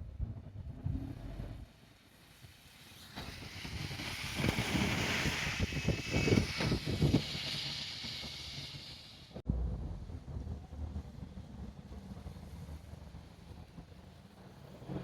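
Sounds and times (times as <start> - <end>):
train passing: 1.2 - 15.0.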